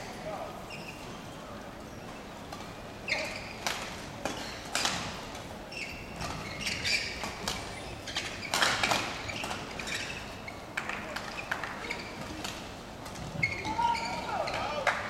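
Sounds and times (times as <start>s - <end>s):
shoes squeaking on court: 0.0s - 14.9s.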